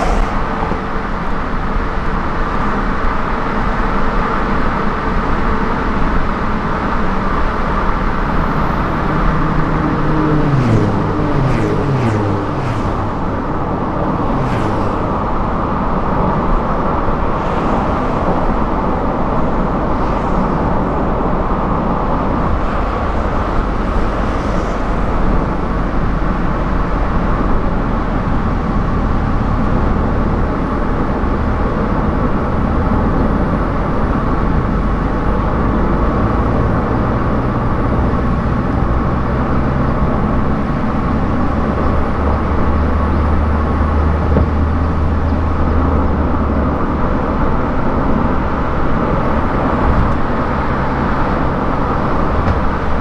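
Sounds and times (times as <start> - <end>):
car tyre noise on highway: 0.0 - 53.0.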